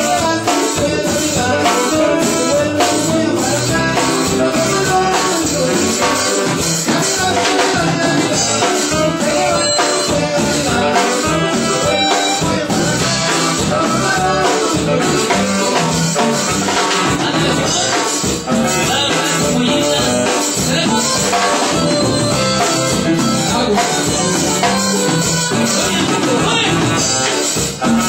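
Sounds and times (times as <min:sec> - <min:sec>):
drum kit and cymbals: 0:00.0 - 0:28.0
keyboard: 0:00.0 - 0:28.0
live latin dance band: 0:00.0 - 0:28.0.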